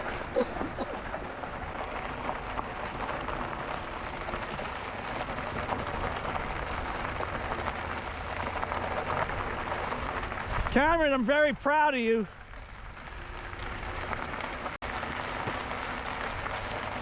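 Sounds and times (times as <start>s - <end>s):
bike tyres rolling on trail: 0.0s - 17.0s.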